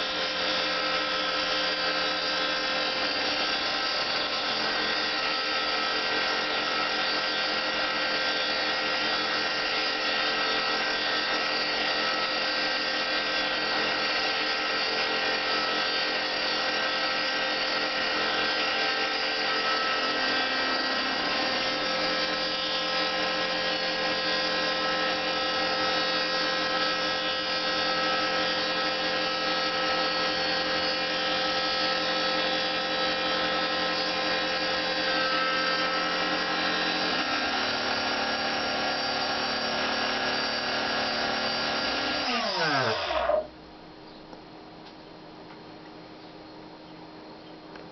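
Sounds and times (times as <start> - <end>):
mill motors whining: 0.0 - 43.6.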